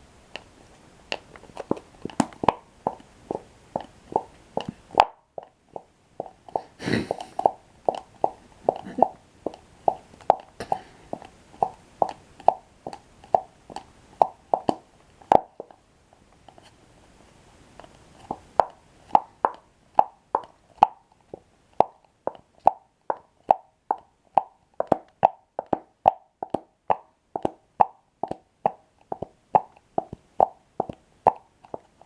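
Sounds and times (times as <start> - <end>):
close chewing with mouth smacks: 1.1 - 15.8, 17.8 - 32.0.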